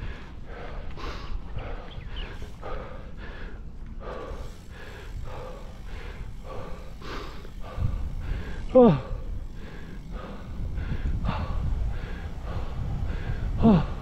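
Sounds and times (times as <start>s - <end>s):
person panting hard: 0.0s - 14.0s
wind rumble on microphone: 0.0s - 14.0s.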